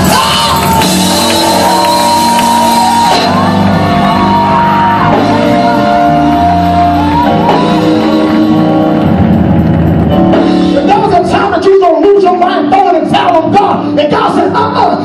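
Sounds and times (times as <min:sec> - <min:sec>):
sustained instrumental chords: 0:00.0 - 0:14.0.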